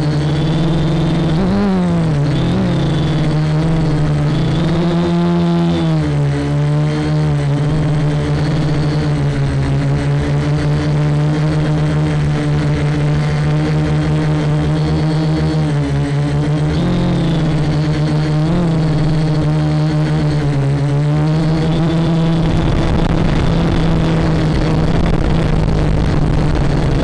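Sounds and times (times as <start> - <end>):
quadcopter propellers humming: 0.0 - 27.0.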